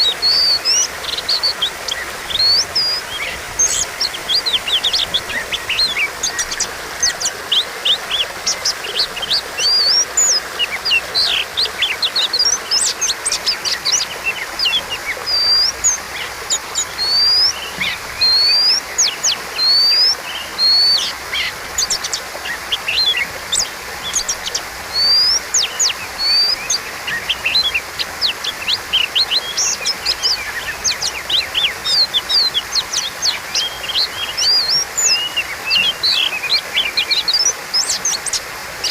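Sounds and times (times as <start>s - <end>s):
bird singing chirps and whistles: 0.0s - 38.9s.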